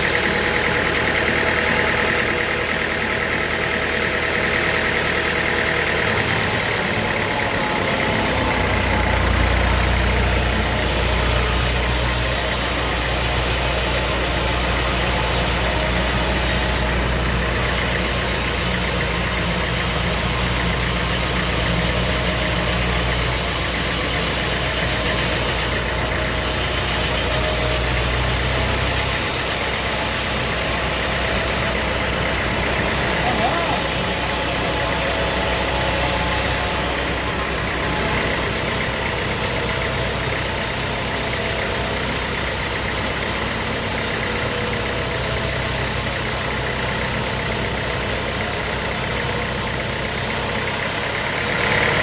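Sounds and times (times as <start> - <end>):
sawmill machinery drone: 0.0 - 52.0.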